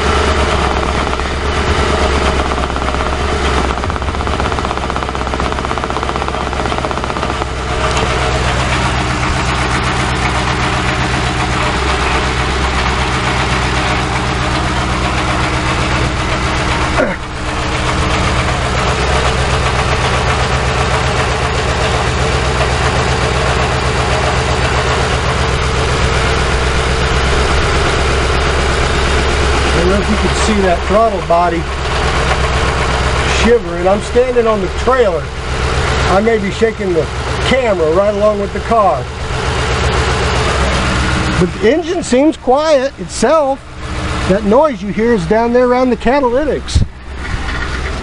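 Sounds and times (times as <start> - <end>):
car engine idling roughly: 0.0 - 48.0.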